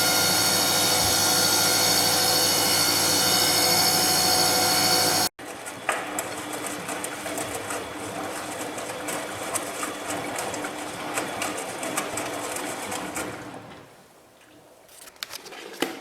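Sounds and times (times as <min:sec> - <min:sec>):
washing machine motor hum: 0:00.0 - 0:13.7.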